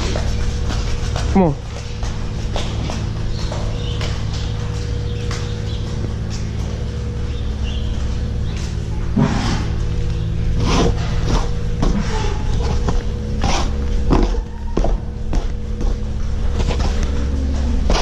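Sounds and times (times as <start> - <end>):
milking machinery hum: 0.0 - 18.0.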